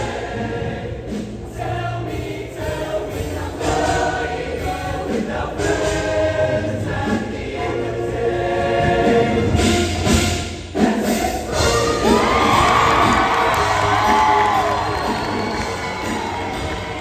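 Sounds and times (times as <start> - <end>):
choir singing harmonized chords: 0.0 - 17.0.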